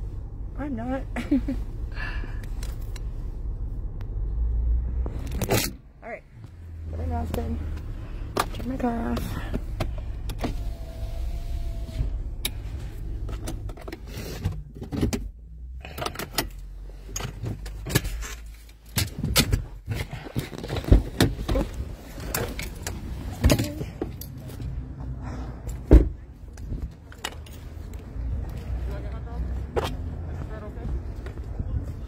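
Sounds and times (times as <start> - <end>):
car engine humming: 0.0 - 32.0.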